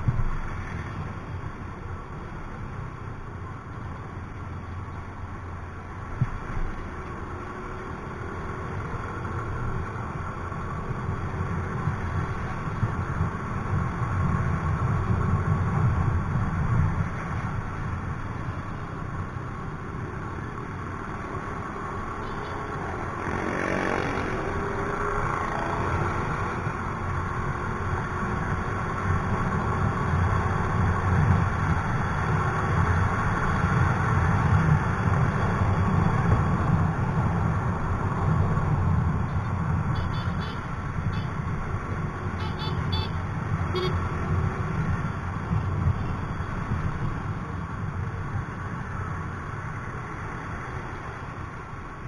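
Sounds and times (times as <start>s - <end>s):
scooter engine and road noise: 0.0s - 52.0s.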